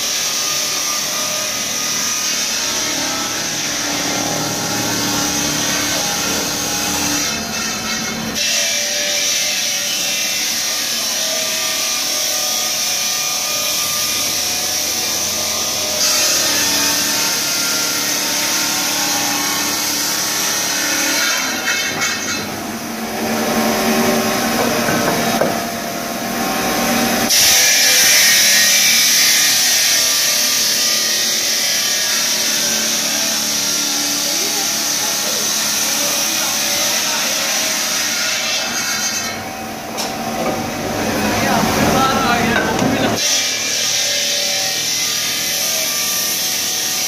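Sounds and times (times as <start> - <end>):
marble cutting machine grinding: 0.0 - 47.0.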